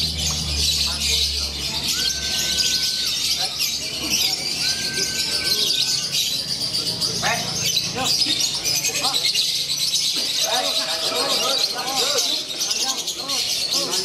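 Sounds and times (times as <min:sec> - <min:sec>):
lovebirds chattering: 0:00.0 - 0:14.0.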